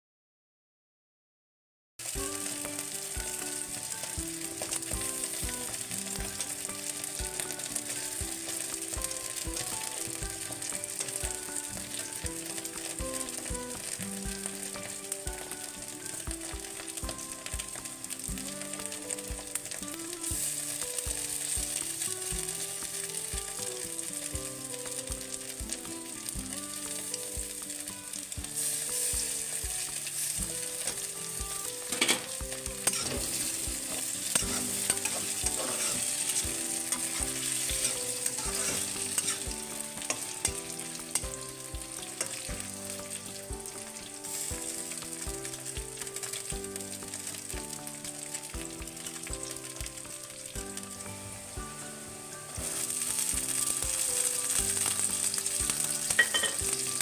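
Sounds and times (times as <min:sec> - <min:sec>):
potatoes sizzling in oil: 0:02.0 - 0:57.0.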